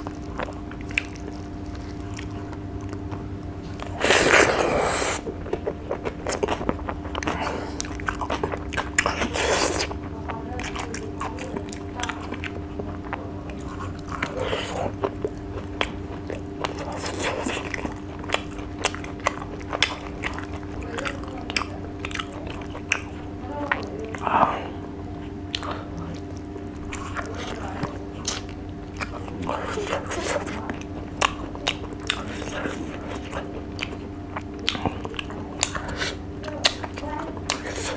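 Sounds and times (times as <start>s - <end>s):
person chewing crunchy food: 0.0s - 37.9s
wet mouth sounds: 0.0s - 37.9s.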